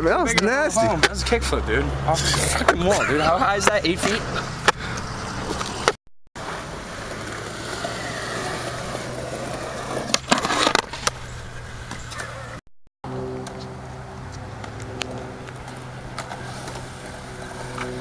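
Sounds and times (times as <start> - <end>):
skateboard wheels rolling on concrete: 2.3 - 18.0.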